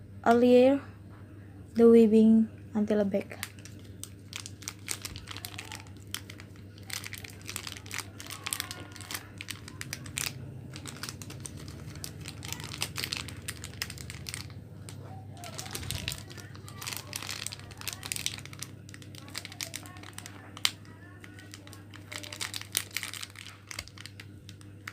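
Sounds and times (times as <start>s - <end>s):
steady low hum: 0.0s - 24.9s
plastic wrappers crinkling: 3.2s - 24.9s.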